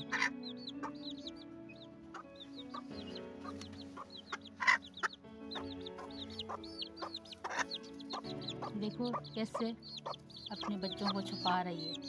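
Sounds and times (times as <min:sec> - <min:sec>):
chicks peeping: 0:00.0 - 0:12.0
hens clucking: 0:00.0 - 0:12.0.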